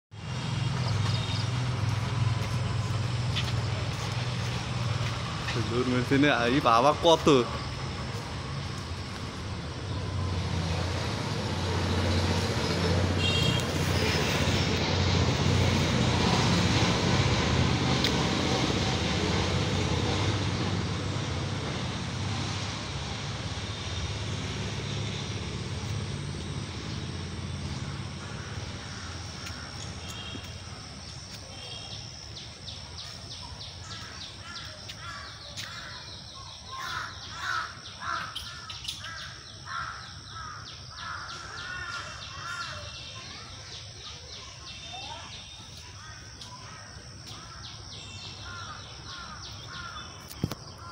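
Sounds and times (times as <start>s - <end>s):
engine hum: 0.1s - 42.7s.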